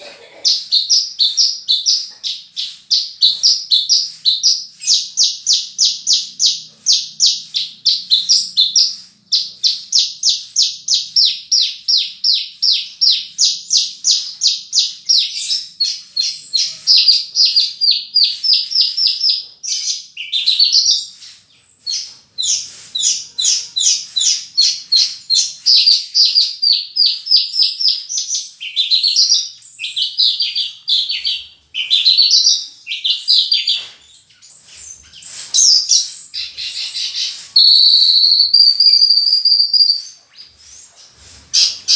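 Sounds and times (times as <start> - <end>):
bushlark singing high chirps: 0.5 - 40.8.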